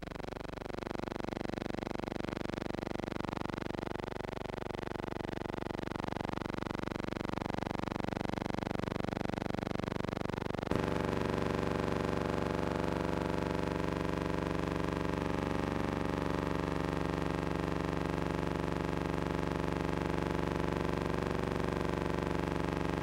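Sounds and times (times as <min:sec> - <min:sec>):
buzzing hum: 0:00.0 - 0:23.0.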